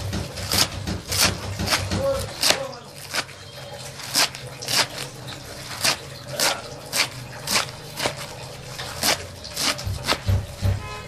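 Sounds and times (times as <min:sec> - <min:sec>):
knife chopping greens on metal: 0:00.0 - 0:11.0.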